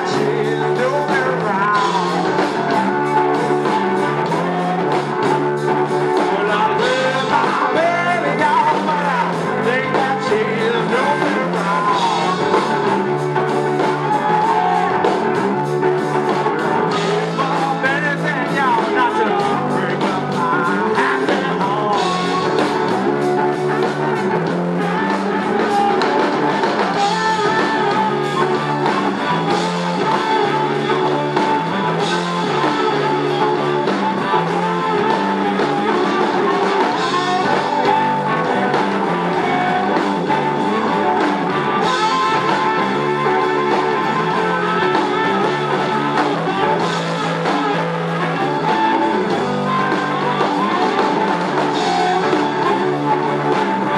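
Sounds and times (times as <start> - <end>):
drums: 0.0 - 53.9
electric lead guitar: 0.0 - 53.9
repeating bass line: 0.0 - 53.9.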